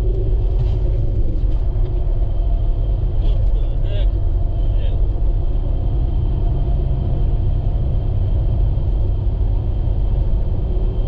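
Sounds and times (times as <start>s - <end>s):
vehicle engine and tyre noise: 0.0s - 11.0s.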